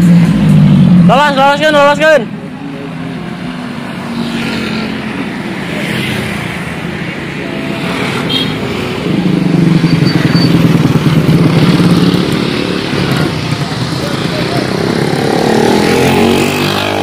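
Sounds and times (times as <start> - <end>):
motorbikes passing by: 0.0 - 17.0.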